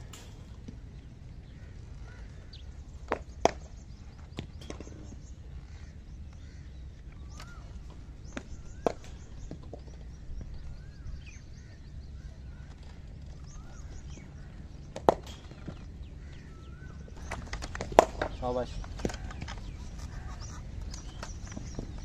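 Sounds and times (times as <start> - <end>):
low outdoor rumble: 0.0 - 22.0
small birds chirping: 0.0 - 22.0.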